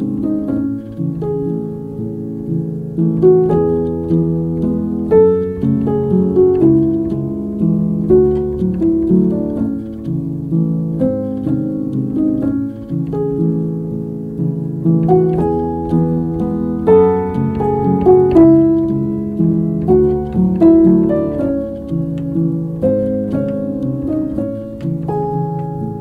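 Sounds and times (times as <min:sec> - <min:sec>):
instrumental background music: 0:00.0 - 0:26.0.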